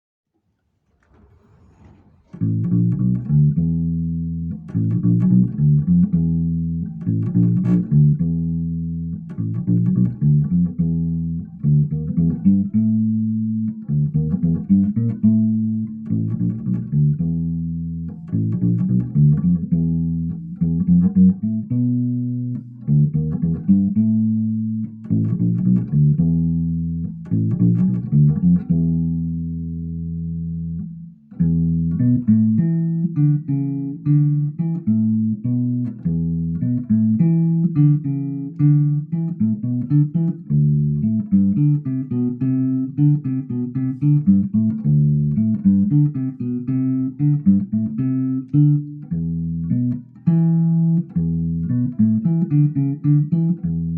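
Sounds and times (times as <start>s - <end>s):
electric bass plucked notes: 2.3s - 53.9s.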